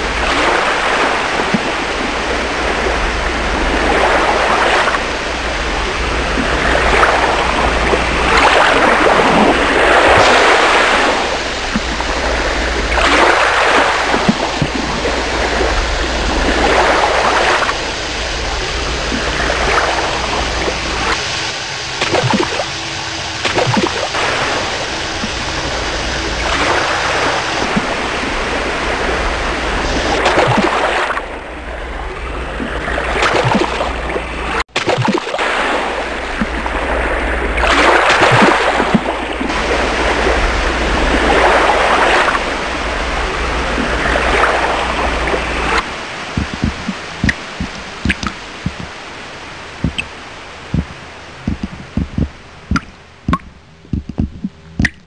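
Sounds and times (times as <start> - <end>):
low steady drone: 0.0 - 34.7, 35.3 - 55.0
water rushing and splashing: 0.0 - 55.0.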